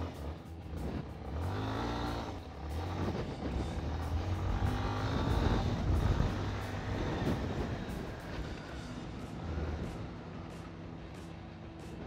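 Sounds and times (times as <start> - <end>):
motorcycle engine running and revving: 0.0 - 12.0.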